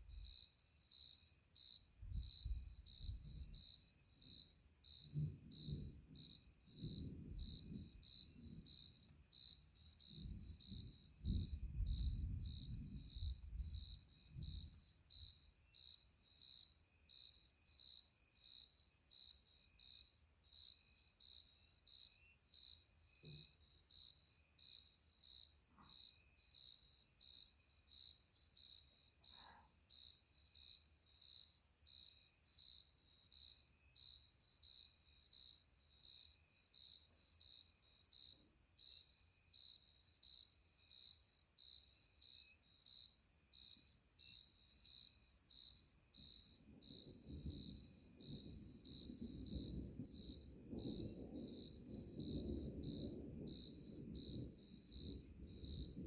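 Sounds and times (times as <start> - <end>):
crickets chirping: 0.0 - 56.0
faint insect trill: 0.0 - 56.0.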